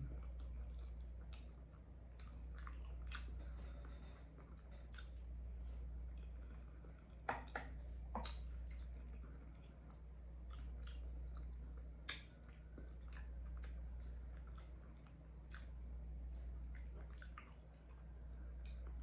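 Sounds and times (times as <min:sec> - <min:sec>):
chewing and mouth sounds: 0:00.0 - 0:19.0
steady low hum: 0:00.0 - 0:19.0.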